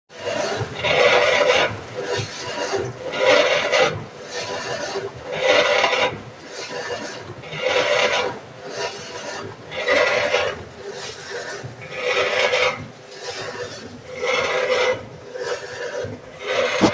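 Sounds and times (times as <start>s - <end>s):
washing machine grinding: 0.1s - 16.9s.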